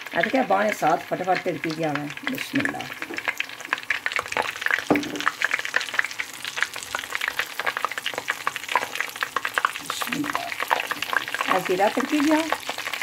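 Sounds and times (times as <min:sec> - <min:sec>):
seeds crackling in hot oil: 0:00.0 - 0:13.0.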